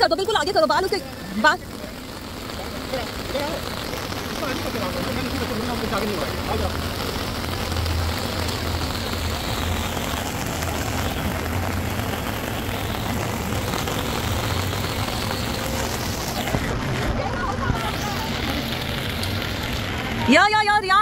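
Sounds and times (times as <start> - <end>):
heavy rain on paving and umbrellas: 0.0 - 21.0.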